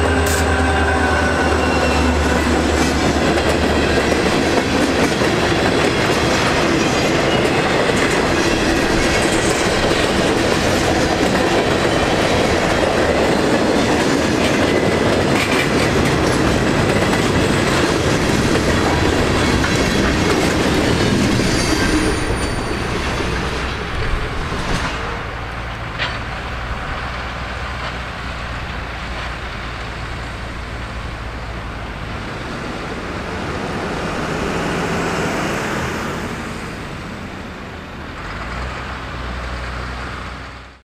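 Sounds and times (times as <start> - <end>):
freight train wheels clicking: 0.0 - 37.1.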